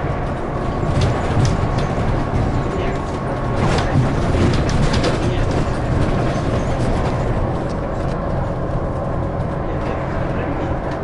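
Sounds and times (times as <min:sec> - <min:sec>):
bus engine and road rumble: 0:00.0 - 0:11.0
light rattles and clicks: 0:00.2 - 0:11.0.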